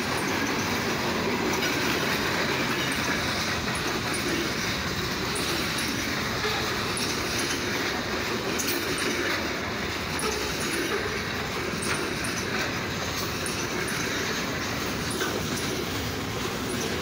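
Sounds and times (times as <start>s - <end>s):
high clicks and squeaks: 0.0s - 17.0s
train wheels rumbling on rail: 0.0s - 17.0s.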